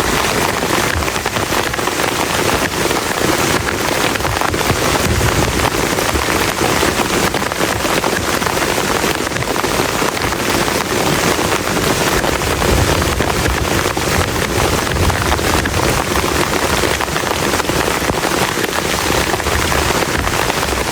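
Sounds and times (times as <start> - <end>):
heavy rain on plastic tarp: 0.0 - 20.9.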